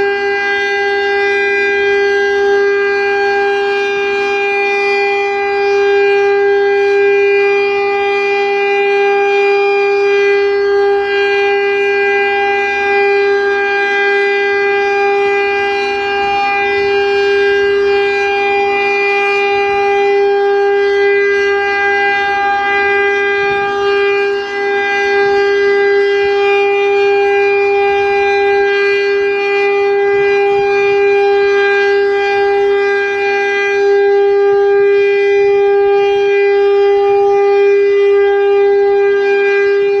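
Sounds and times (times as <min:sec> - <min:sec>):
warning siren steady tone: 0:00.0 - 0:40.0.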